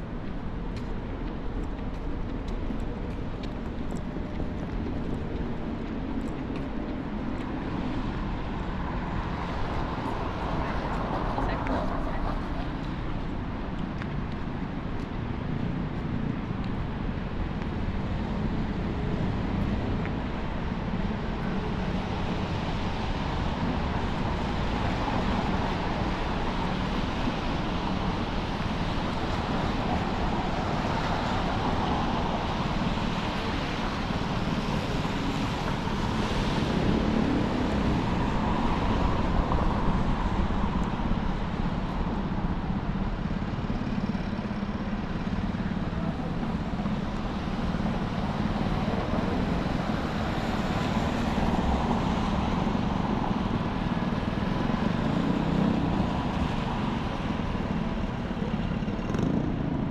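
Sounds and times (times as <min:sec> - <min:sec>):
cars on wet pavement: 0:00.2 - 0:59.8.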